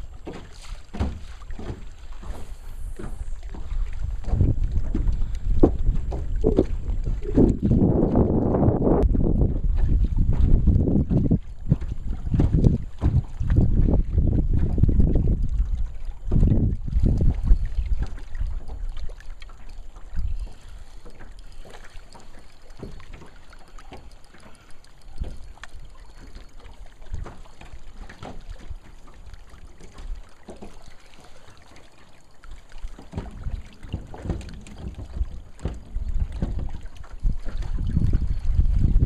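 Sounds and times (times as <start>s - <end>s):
wind rumbling on microphone: 0.0s - 30.8s, 32.4s - 39.0s.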